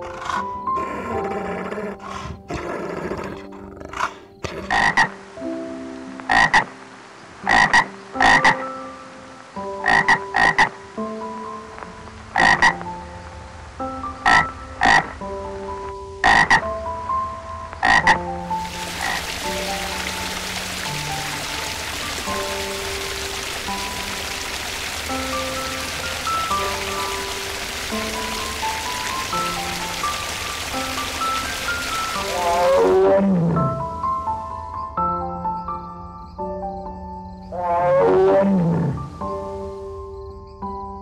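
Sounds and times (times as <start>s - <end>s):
background music: 0.0s - 41.0s
steady hiss like rain: 4.2s - 41.0s.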